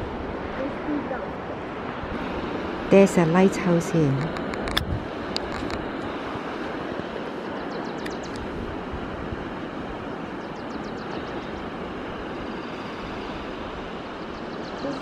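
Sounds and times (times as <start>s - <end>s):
ocean surf breaking on rocks: 0.0s - 15.0s.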